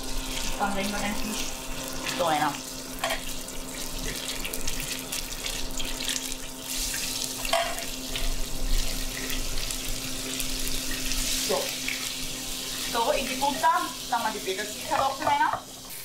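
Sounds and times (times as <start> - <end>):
fish fillets sizzling in oil: 0.0 - 16.0.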